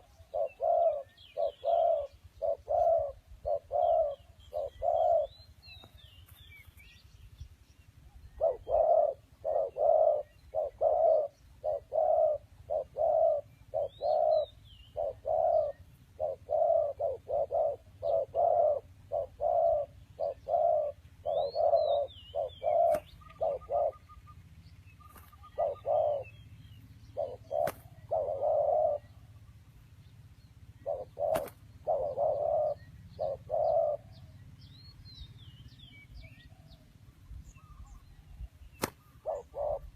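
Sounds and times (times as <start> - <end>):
bird hooting or cooing: 0.0 - 5.8, 8.0 - 29.8, 30.6 - 35.0, 35.9 - 39.9
small birds chirping: 0.0 - 39.9.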